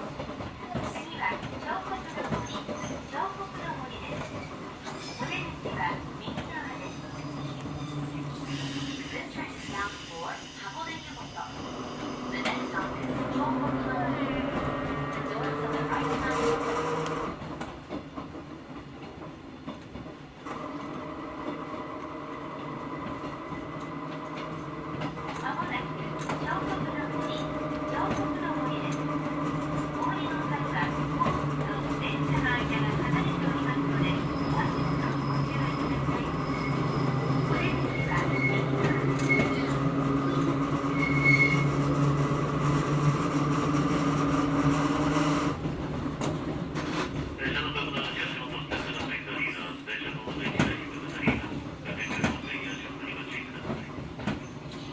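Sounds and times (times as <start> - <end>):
train wheels clicking on track: 0.0 - 54.9.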